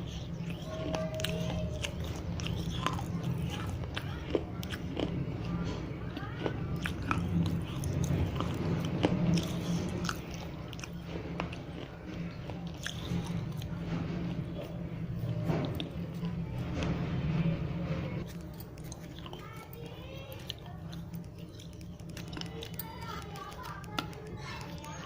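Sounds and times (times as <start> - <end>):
teeth crunching clay: 0.0 - 16.9, 18.2 - 25.0
steady low hum: 0.0 - 25.0.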